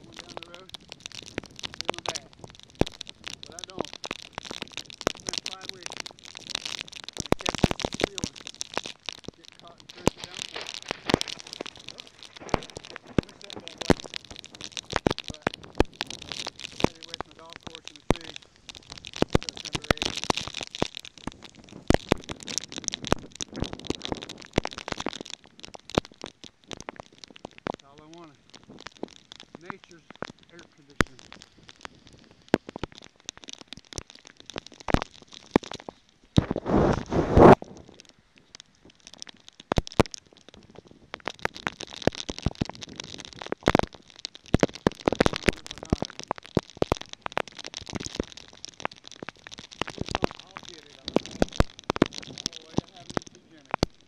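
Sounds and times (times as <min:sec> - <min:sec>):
hail cracking and popping: 0:00.0 - 0:54.0
hiss of wind-driven rain: 0:00.0 - 0:54.0.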